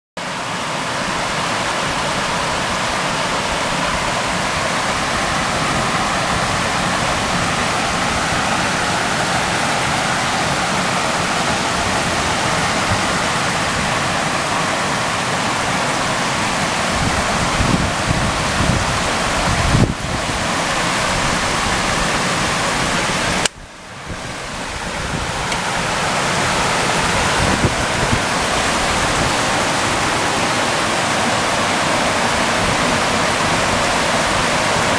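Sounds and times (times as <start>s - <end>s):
rushing flood water: 0.2s - 34.9s.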